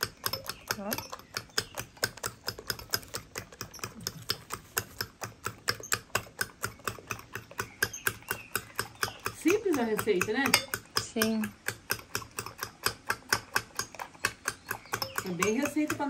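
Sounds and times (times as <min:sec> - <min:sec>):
fork beating eggs on plate: 0:00.0 - 0:16.0.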